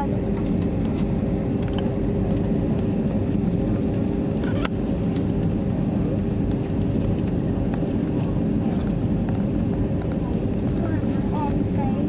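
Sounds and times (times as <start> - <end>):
airliner cabin drone: 0.0 - 12.0
constant hum: 0.0 - 12.0.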